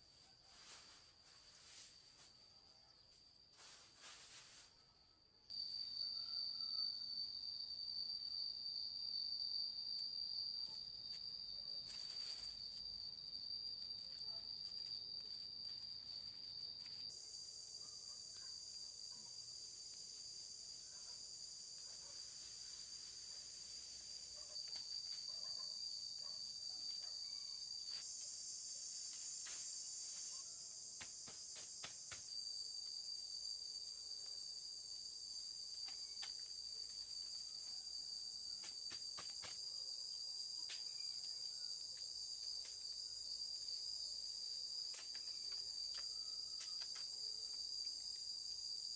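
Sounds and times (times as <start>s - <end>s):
insects trilling: 0.0s - 48.9s.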